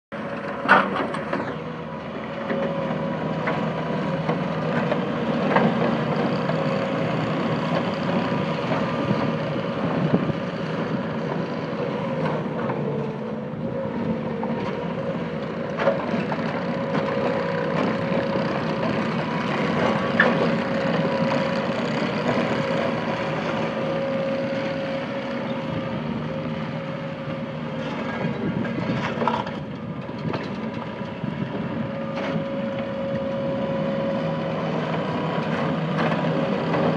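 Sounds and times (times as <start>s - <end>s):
diesel engine running with whine: 0.1s - 36.9s.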